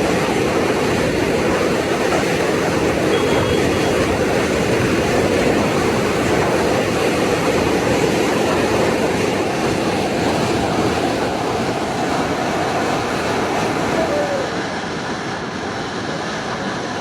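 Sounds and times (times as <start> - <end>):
heavy rain and rushing floodwater: 0.0 - 17.0.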